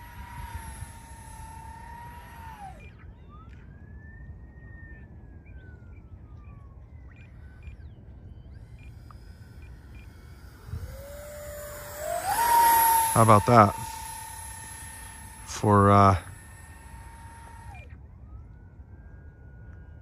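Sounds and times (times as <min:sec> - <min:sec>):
model plane motor whine: 0:00.0 - 0:20.0.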